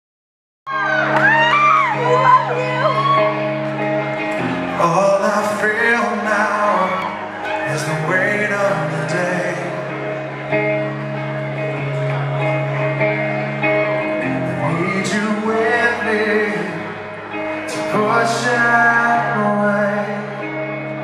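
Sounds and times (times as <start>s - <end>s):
distorted electric guitar chords: 0.7s - 21.0s.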